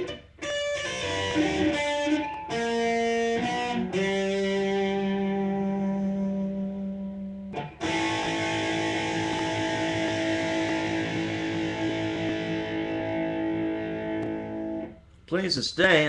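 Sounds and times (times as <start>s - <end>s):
distorted electric guitar chords: 0.0s - 15.0s
guitar feedback: 0.0s - 15.2s.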